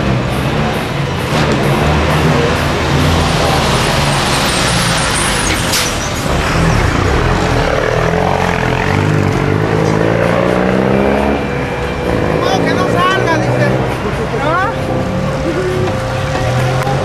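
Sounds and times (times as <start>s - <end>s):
bus passing: 0.0s - 17.0s
engine revving: 0.0s - 17.0s.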